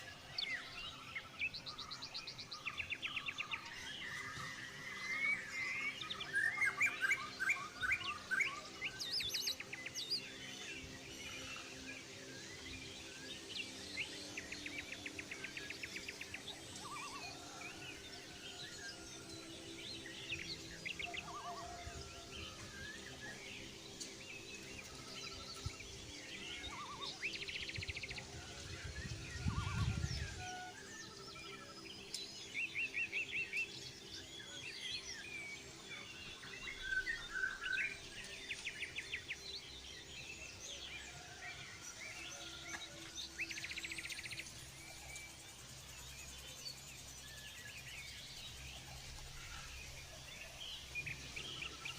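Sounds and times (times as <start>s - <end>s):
birds chirping and calling: 0.0s - 51.9s.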